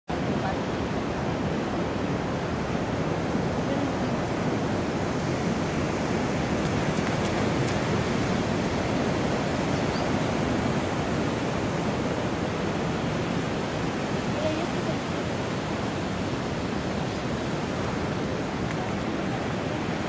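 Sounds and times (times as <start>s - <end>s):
wind: 0.0s - 20.0s
sea water washing at shore: 0.1s - 20.0s.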